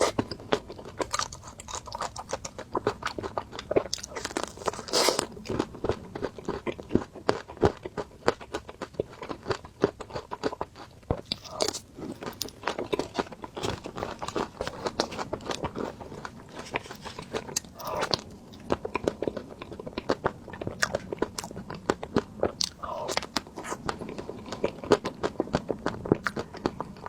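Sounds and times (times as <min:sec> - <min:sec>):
crunchy chewing: 0:00.0 - 0:27.0
wet chewing: 0:00.0 - 0:27.0.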